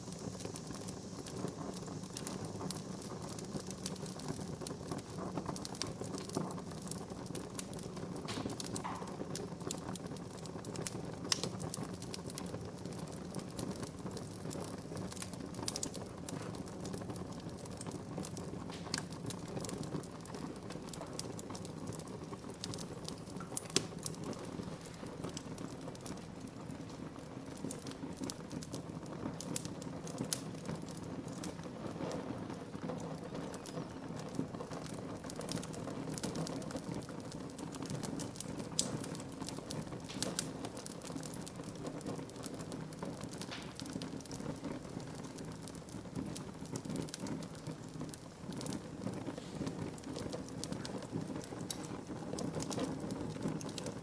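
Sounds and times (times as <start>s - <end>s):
fire flame rushing: 0.0s - 54.0s
wood crackling and popping: 0.0s - 54.0s.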